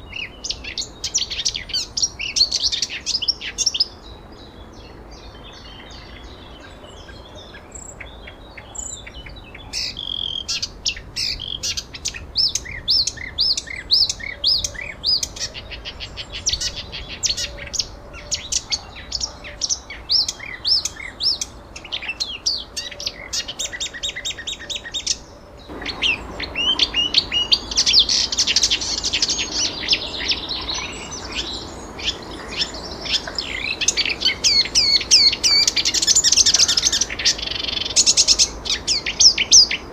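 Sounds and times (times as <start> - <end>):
chorus of birds: 0.0 - 39.9
songbirds chirping and singing: 0.0 - 39.9.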